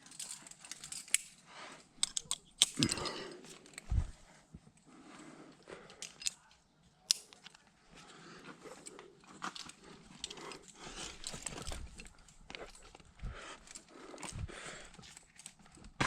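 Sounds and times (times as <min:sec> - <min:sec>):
climbing gear and rope handled: 0:00.0 - 0:16.0.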